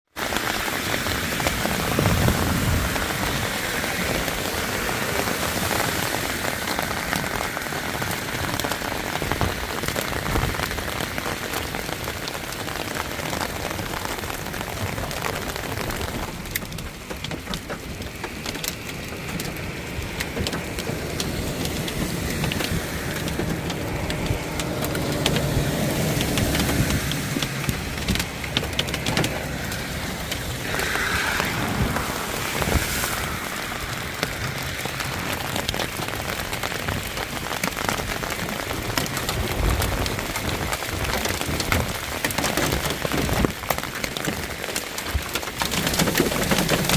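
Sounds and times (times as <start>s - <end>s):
heavy rain on hard surfaces: 0.1s - 46.9s.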